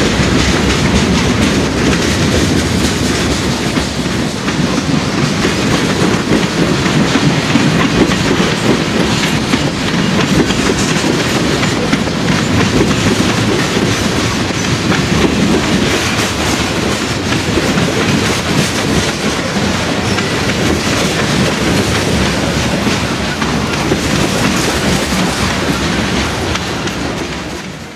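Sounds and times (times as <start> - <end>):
train wheels clacking over rail joints: 0.0 - 27.9.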